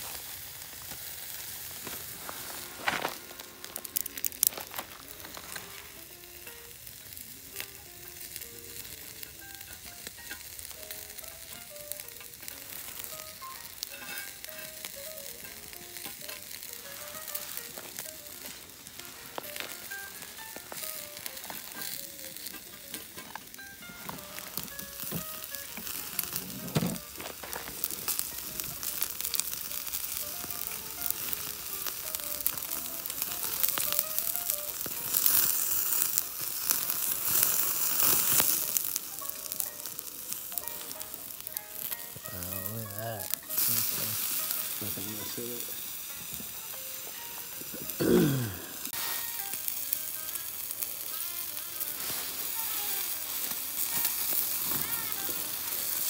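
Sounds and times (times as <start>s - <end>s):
steak sizzling on a grill: 0.0s - 56.0s.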